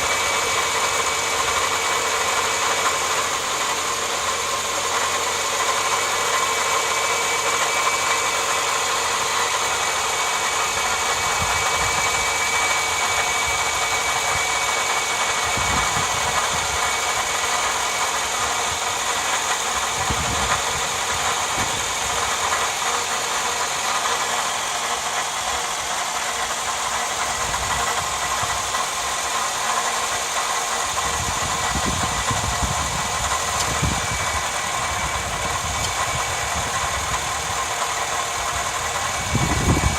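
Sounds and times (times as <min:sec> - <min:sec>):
belt drive whine: 0:00.0 - 0:39.9
car engine idling: 0:00.0 - 0:39.9.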